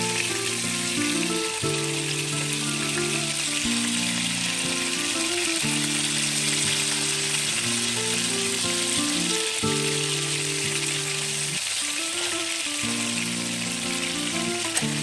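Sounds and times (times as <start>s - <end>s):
fish sizzling in hot oil: 0.0s - 15.0s
soft background music chords: 0.0s - 15.0s.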